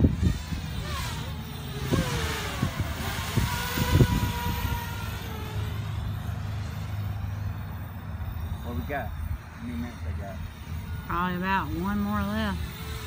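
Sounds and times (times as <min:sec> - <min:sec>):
drone propeller whine: 0:00.0 - 0:13.0.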